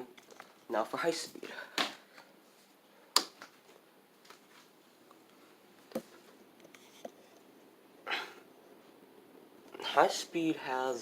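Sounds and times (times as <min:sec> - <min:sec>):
faint steady background: 0:00.0 - 0:11.0.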